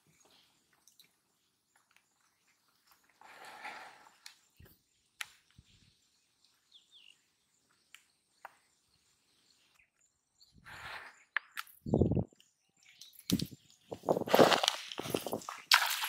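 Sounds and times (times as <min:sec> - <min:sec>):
faint bird chirps: 0:00.0 - 0:14.2.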